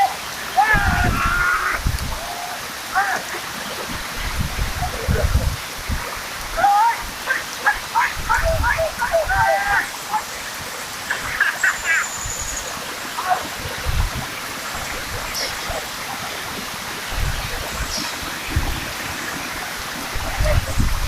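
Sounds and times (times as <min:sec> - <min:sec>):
faint voices: 0:00.0 - 0:05.5, 0:06.5 - 0:12.0, 0:13.1 - 0:14.0, 0:14.6 - 0:21.0
flowing water rushing: 0:00.0 - 0:21.0.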